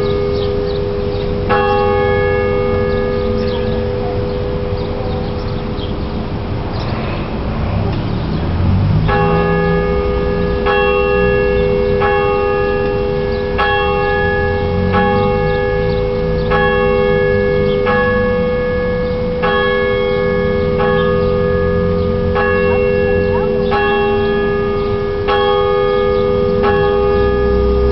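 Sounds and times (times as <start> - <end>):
church bells ringing: 0.0 - 7.4, 8.6 - 27.9.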